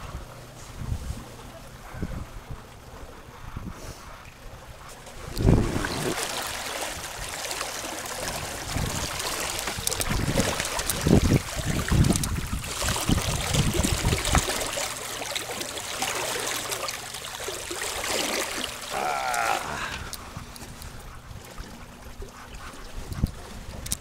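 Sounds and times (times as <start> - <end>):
water rushing along hull: 0.0 - 24.0.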